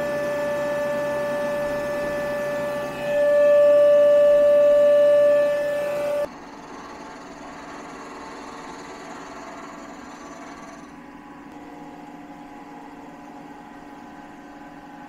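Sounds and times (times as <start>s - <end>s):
milling machine hum: 0.0s - 15.0s.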